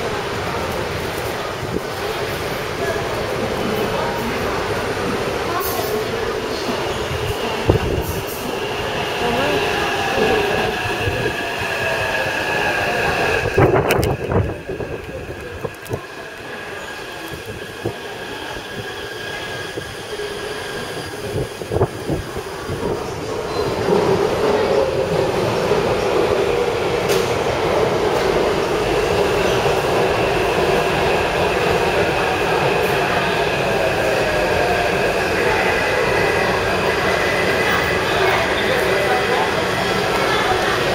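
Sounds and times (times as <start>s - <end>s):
metro train rolling on track: 0.0s - 40.9s
steady train tones: 0.0s - 40.9s.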